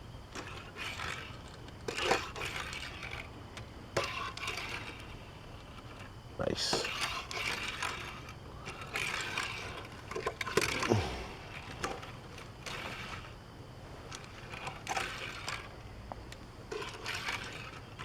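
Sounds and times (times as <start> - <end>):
toy car wheels whirring: 0.3 - 18.0.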